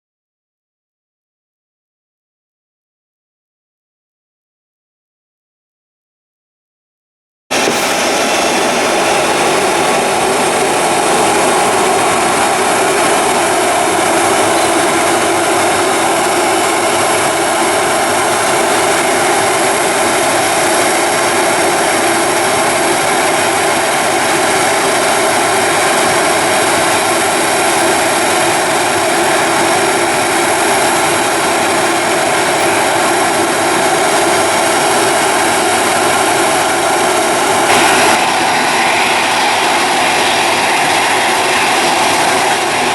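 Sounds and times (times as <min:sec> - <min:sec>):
airliner engines whining: 0:07.5 - 0:42.9.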